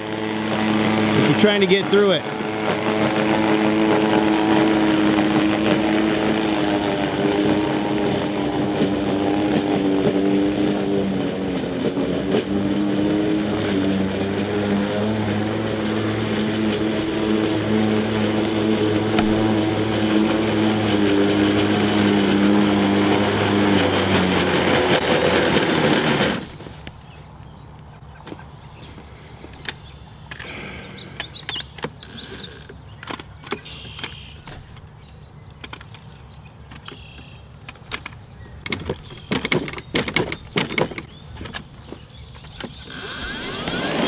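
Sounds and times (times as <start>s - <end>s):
electric lawn mower cutting grass: 0.0s - 27.0s, 29.6s - 34.7s, 36.8s - 44.0s.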